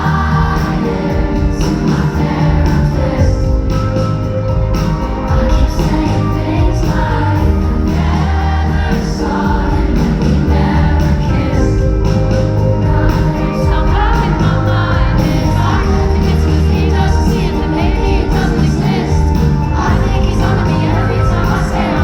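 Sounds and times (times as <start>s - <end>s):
heavy bass: 0.0s - 22.0s
live pop band: 0.0s - 22.0s
several voices singing: 0.0s - 22.0s.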